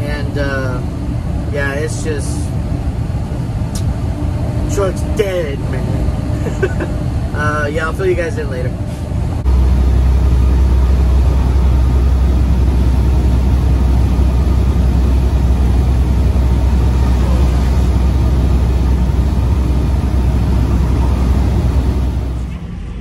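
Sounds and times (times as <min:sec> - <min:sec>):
low diesel engine drone: 0:00.0 - 0:23.0
road noise: 0:00.0 - 0:23.0.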